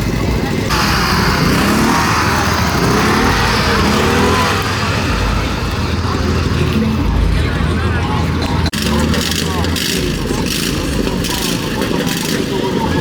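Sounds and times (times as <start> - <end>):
indistinct voices: 0.0 - 13.0
vehicle engine rumbling: 0.0 - 13.0.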